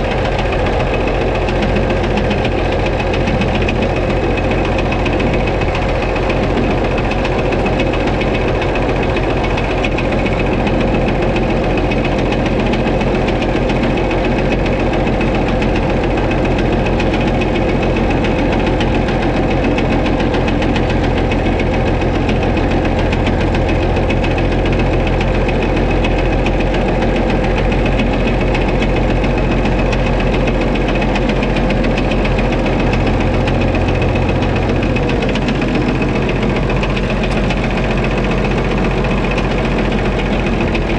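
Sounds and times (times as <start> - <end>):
diesel tractor engine idling: 0.0 - 40.9
engine knocking: 0.0 - 40.9.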